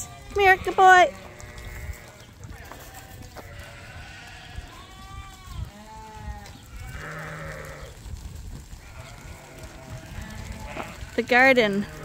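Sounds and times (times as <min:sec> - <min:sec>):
sheep bleating: 0:00.0 - 0:07.9, 0:08.8 - 0:12.0.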